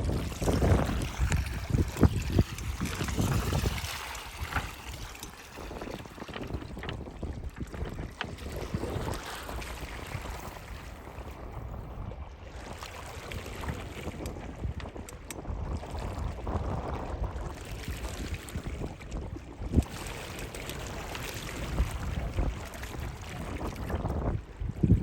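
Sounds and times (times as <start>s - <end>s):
sea waves: 0.0s - 25.0s
wind buffeting microphone: 0.0s - 25.0s.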